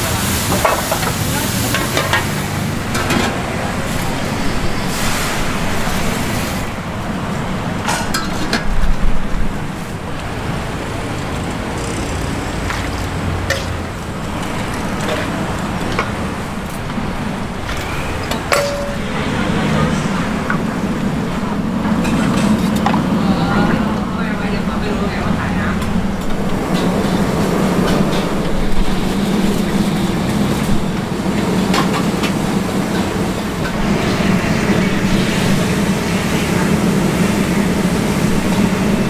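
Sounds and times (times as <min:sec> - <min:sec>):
frying hiss: 0:00.0 - 0:39.0
low traffic rumble: 0:00.0 - 0:39.0.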